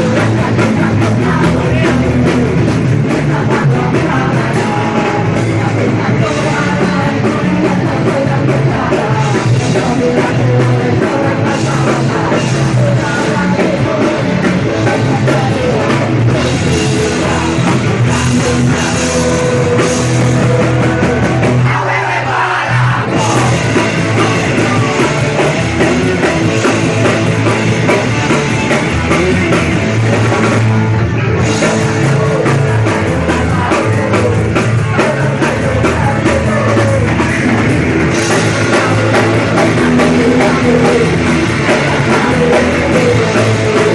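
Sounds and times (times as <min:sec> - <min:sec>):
man singing into microphone: 0:00.0 - 0:30.7, 0:31.4 - 0:43.9
punk rock band playing live: 0:00.0 - 0:43.9.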